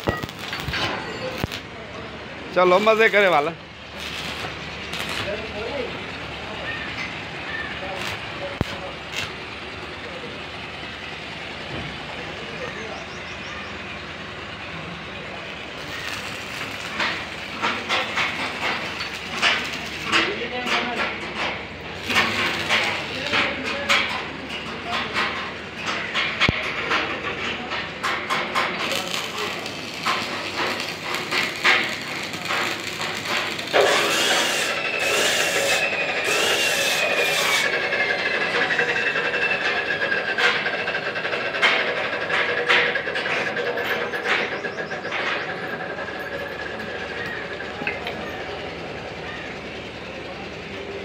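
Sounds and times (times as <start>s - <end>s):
welding arc crackling: 0.0s - 11.6s, 13.8s - 43.3s
workshop background noise: 0.0s - 51.0s.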